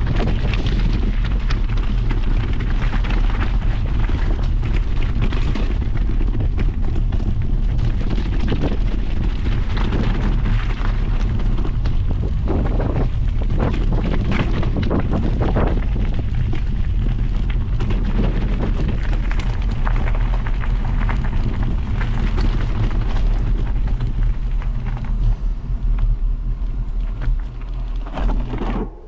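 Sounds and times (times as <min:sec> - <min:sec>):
wind buffeting microphone: 0:00.0 - 0:28.8.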